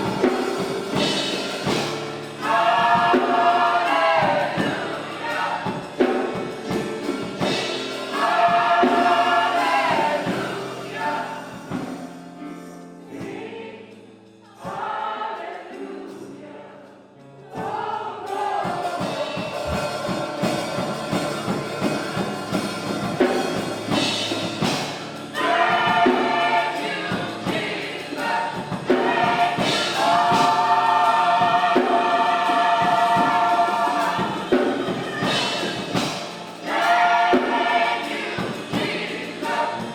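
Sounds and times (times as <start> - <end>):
instrumental accompaniment: 0.0 - 16.3, 17.2 - 39.9
gospel choir singing: 0.0 - 39.9.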